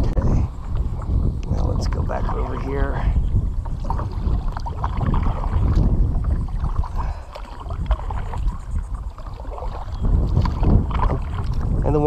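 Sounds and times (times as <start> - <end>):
paddle splashing in water: 0.6 - 12.0.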